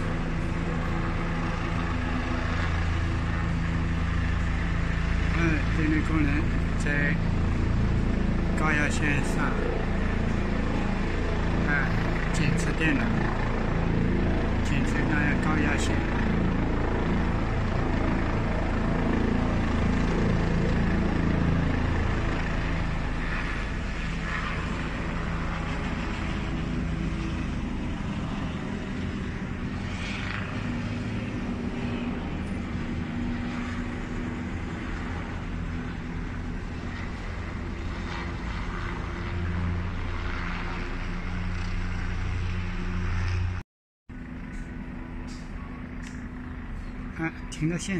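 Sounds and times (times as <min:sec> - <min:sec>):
distant helicopter hovering: 0:00.0 - 0:47.9.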